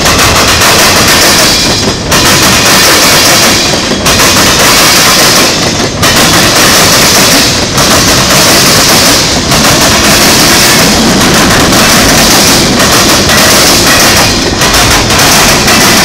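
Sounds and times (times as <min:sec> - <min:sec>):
train wheels clattering over joints: 0:00.0 - 0:16.0.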